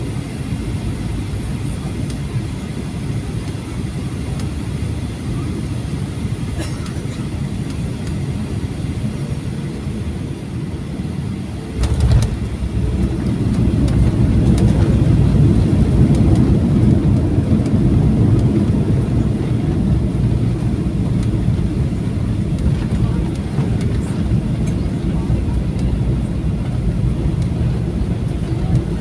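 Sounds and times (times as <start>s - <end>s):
airplane cabin rumble: 0.0s - 29.0s.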